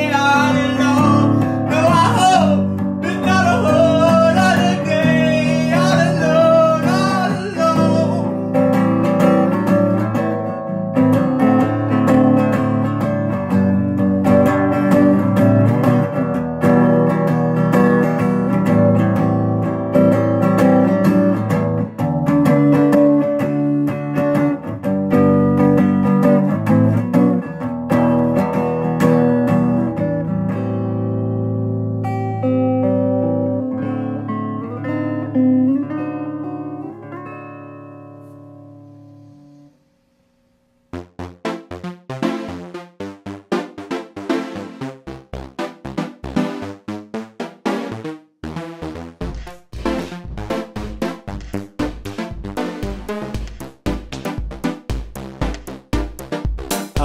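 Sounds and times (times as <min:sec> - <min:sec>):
acoustic guitar song: 0:00.0 - 0:40.1, 0:40.9 - 0:57.0.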